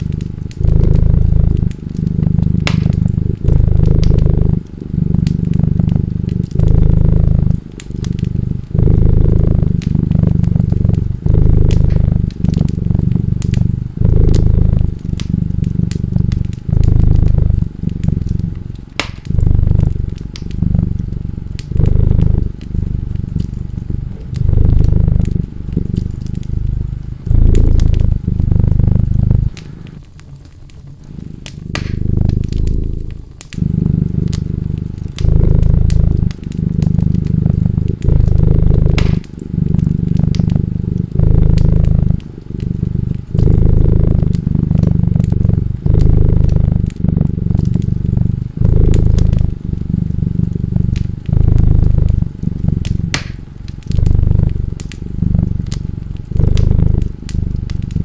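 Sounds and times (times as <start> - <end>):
cat purring: 0.0 - 58.0
wood fire crackling and popping: 0.0 - 58.0.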